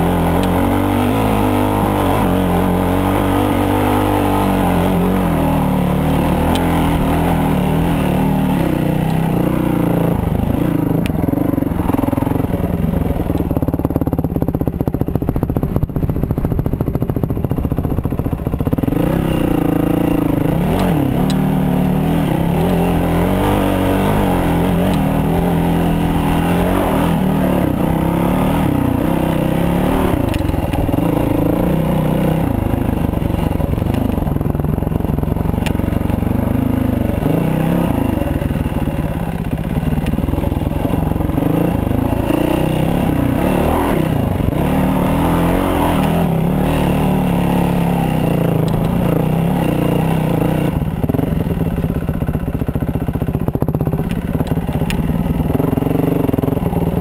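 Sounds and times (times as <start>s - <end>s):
dirt bike engine revving: 0.0s - 15.0s, 16.0s - 57.0s.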